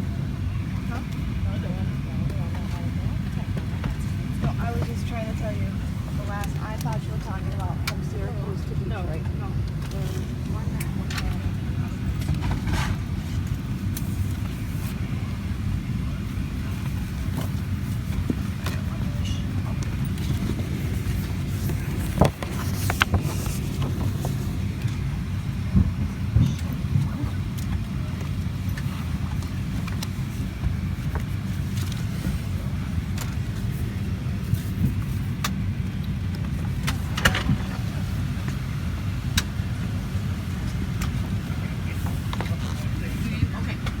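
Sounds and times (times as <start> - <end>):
airplane cabin rumble: 0.0 - 44.0.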